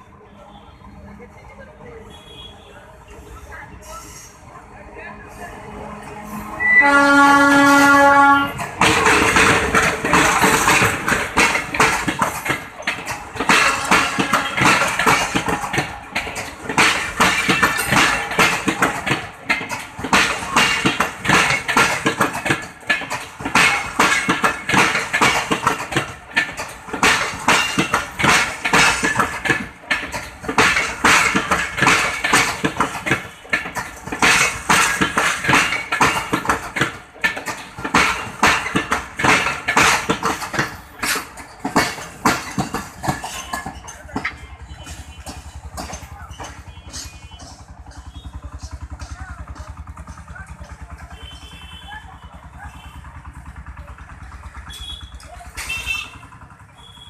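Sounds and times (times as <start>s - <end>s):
train wheels clattering over rails: 5.3s - 57.0s.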